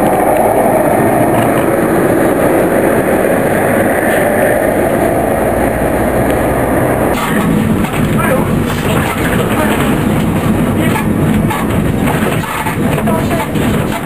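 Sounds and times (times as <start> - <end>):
electric tram running on rails: 0.0 - 14.0.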